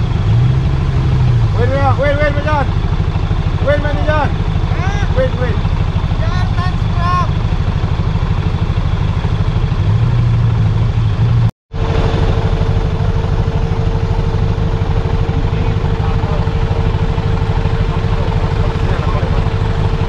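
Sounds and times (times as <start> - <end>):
off-road engine running: 0.0 - 20.0
steady whine: 0.0 - 20.0.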